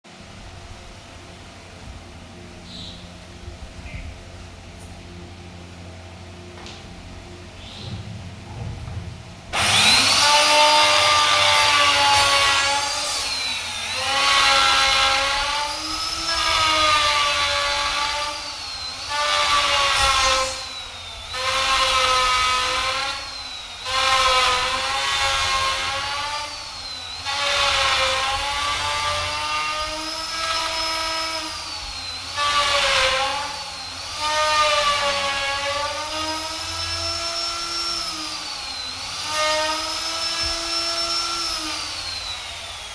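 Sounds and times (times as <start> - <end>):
power tool cutting wood: 7.6 - 42.9.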